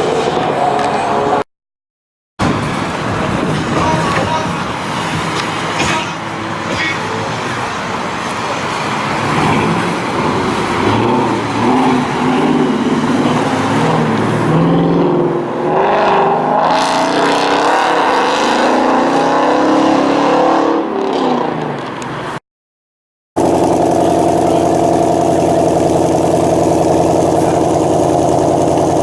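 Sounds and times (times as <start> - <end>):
car engines revving: 0.0 - 1.4, 2.4 - 22.4, 23.4 - 29.0.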